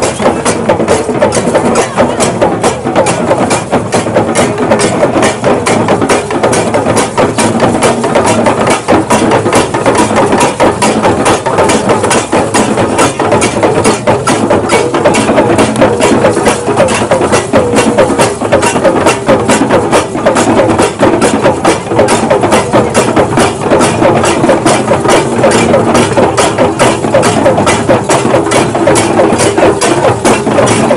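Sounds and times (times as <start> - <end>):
fast percussion beat: 0.0 - 30.9.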